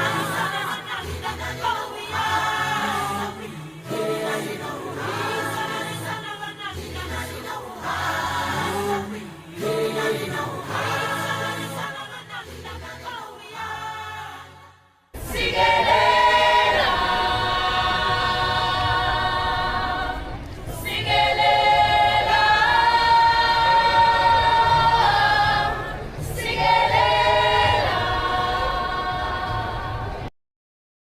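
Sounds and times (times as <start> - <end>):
choir singing held chords: 0.0 - 30.3.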